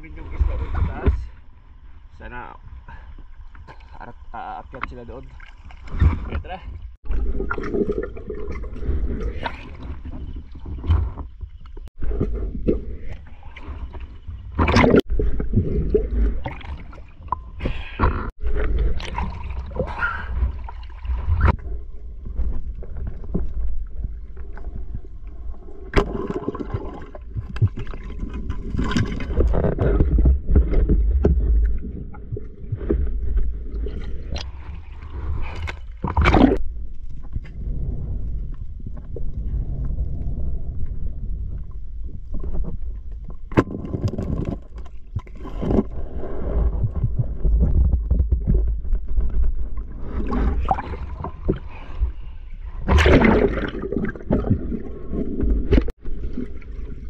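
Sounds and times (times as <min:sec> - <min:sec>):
water sloshing and splashing: 0:00.0 - 0:37.7, 0:41.5 - 0:57.0
muffled underwater rushing water: 0:00.0 - 0:57.0.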